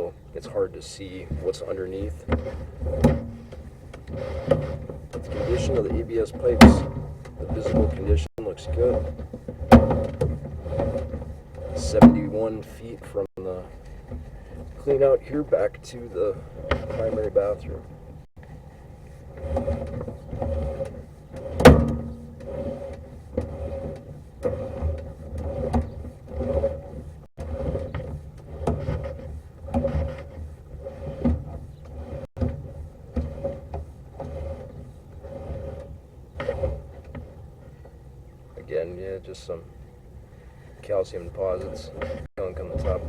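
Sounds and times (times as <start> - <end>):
cable scraping and knocking in pipe: 0.0 - 43.0.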